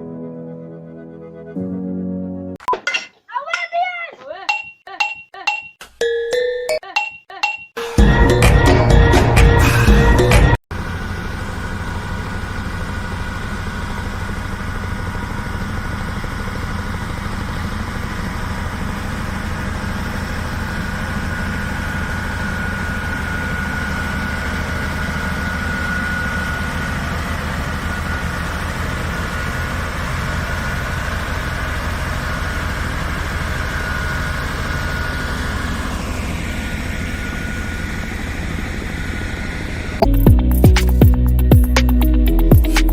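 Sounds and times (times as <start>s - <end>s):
heavy machine engine rumbling: 8.0s - 42.6s.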